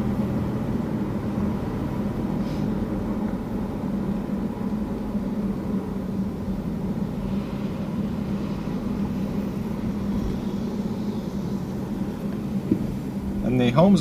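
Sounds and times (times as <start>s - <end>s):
car engine and tyre hum: 0.0s - 14.0s.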